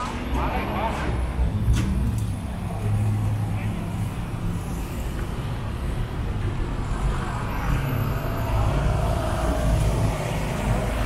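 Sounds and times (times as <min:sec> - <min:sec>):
engines running: 0:00.0 - 0:11.0
passing vehicle: 0:01.2 - 0:11.0.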